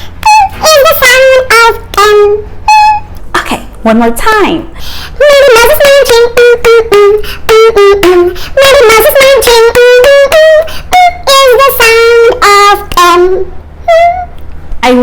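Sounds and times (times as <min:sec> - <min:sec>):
woman singing children's song: 0:00.2 - 0:14.2, 0:14.8 - 0:15.0.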